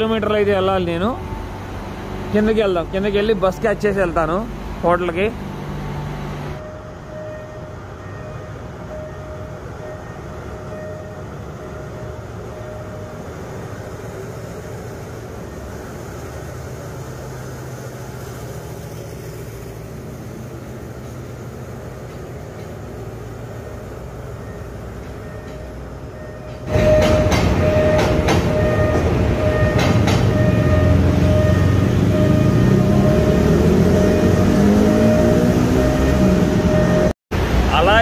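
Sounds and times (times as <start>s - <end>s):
train rumble: 0.0s - 38.0s
train whine: 0.0s - 38.0s.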